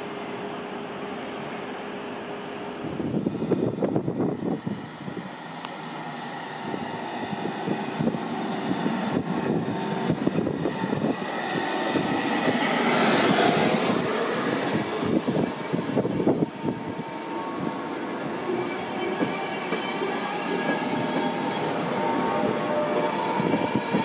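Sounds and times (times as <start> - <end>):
train rushing hiss: 0.3 - 24.0
train wheels rumbling on rails: 2.4 - 24.0.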